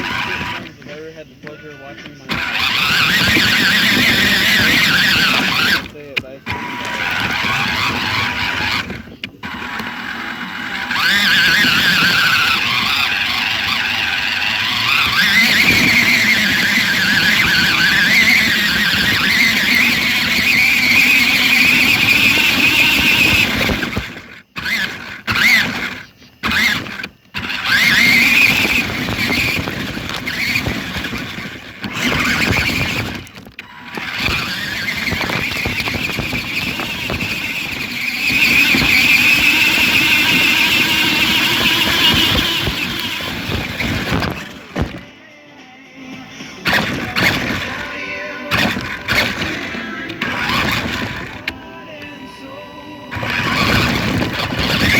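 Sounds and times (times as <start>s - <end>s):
toy car electric motor whining: 0.0s - 45.4s, 46.1s - 54.9s.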